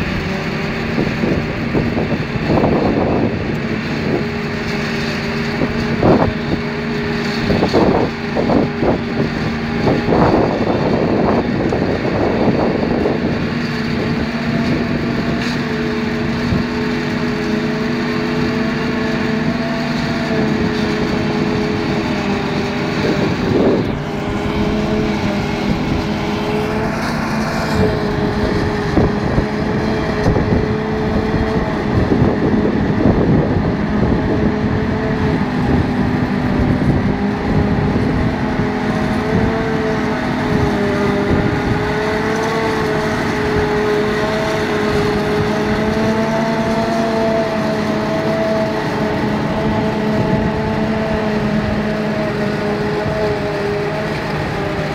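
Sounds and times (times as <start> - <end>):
forage harvester chopping grass: 0.0 - 54.9
tractor engines droning: 0.0 - 54.9.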